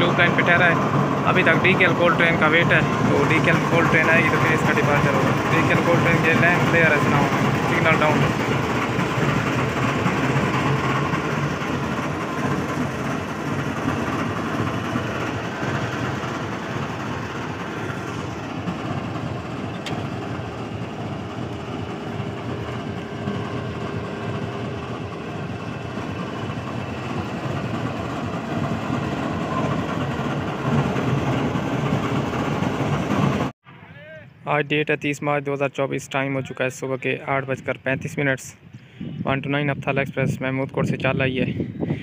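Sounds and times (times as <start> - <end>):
diesel locomotive idling: 0.0 - 34.2.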